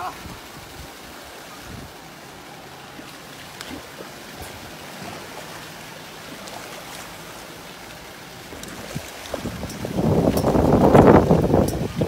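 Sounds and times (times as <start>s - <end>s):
water: 0.0s - 12.0s
wind: 0.0s - 12.0s.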